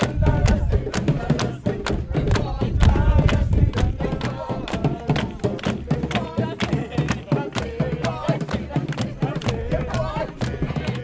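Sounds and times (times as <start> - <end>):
drum beat: 0.0 - 11.0.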